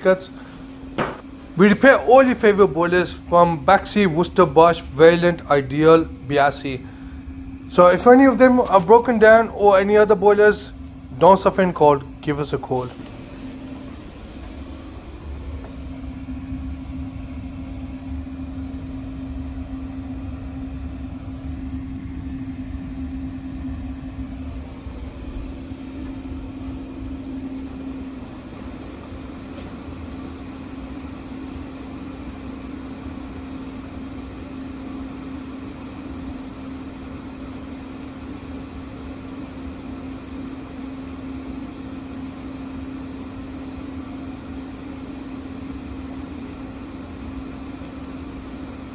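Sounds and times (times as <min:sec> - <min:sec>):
machine hum: 0:00.0 - 0:48.9.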